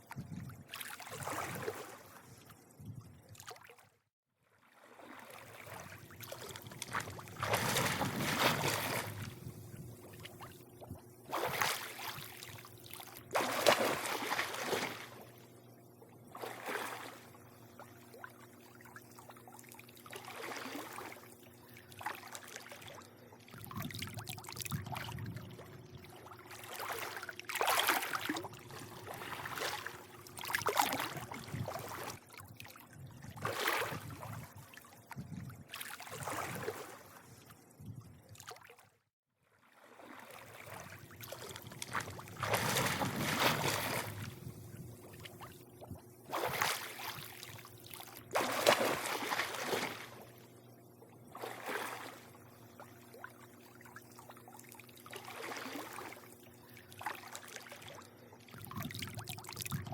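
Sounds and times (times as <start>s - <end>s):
pool water lapping and sloshing: 0.0s - 59.9s
faint steady hum: 4.8s - 38.6s, 39.8s - 59.9s.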